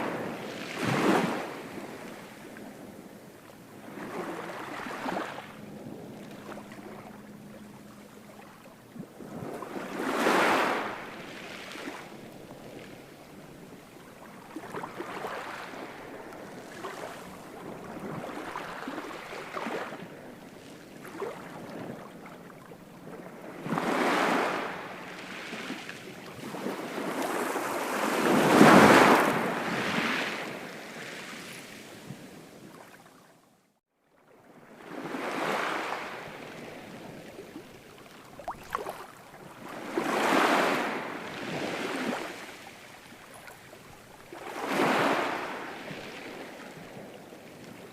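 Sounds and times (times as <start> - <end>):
ocean waves breaking: 0.0 - 33.0, 34.6 - 47.9.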